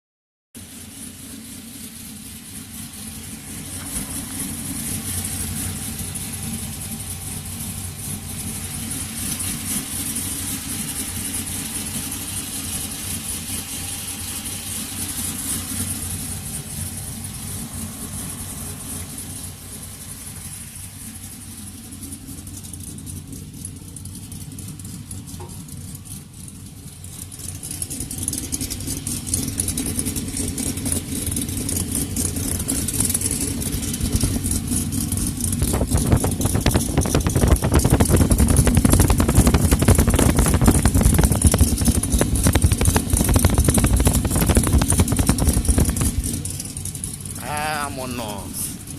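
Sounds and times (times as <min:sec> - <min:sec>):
low exhaust rumble: 0:00.6 - 0:48.9.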